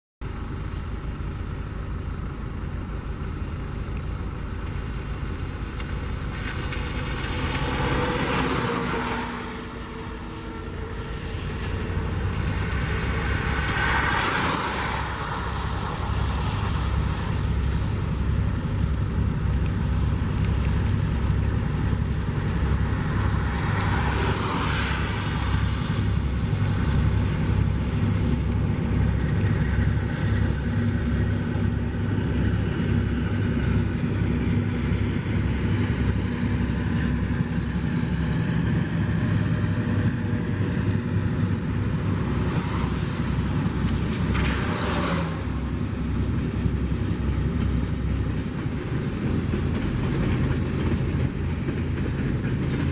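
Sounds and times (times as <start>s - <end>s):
freight train rolling past: 1.3s - 52.9s
train wheels rhythmic clatter: 4.6s - 52.9s.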